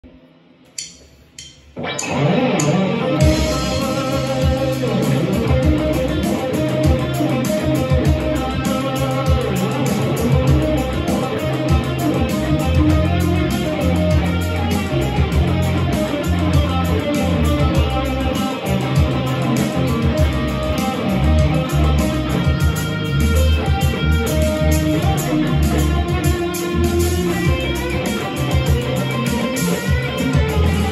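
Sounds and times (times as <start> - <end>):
electric guitar lead: 0.1 - 30.9
backing track with bass and beat: 0.7 - 30.9.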